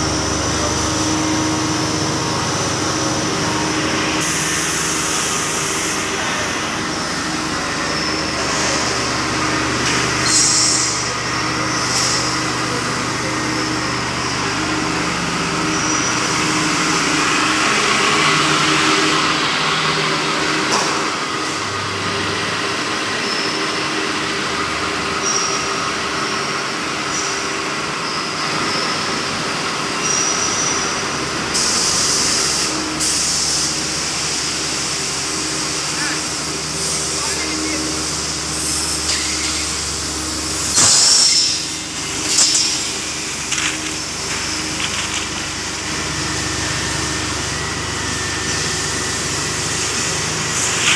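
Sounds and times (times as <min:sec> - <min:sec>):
machinery hum: 0:00.0 - 0:50.9.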